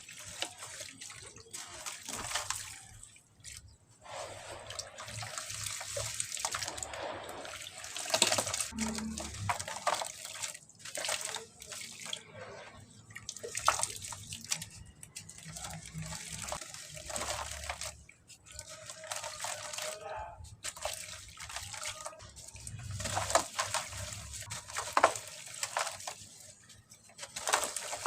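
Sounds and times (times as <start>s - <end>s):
cement lumps splashing into water: 0.0s - 28.0s.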